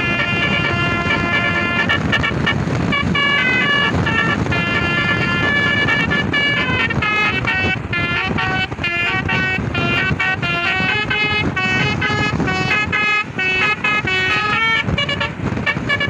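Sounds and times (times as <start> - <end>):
bus and road rumble: 0.0 - 16.0
musical air horn tune: 0.0 - 16.0.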